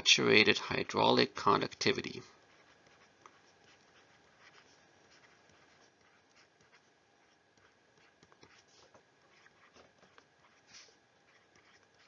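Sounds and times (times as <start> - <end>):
stylus scratching and tapping tablet: 0.0 - 12.0.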